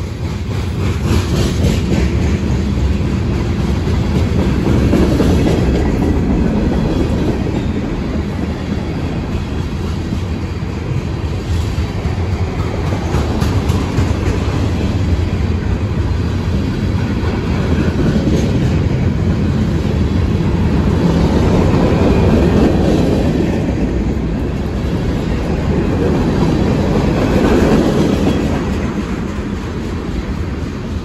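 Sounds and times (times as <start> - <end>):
train wheels rolling on rails: 0.0 - 31.0.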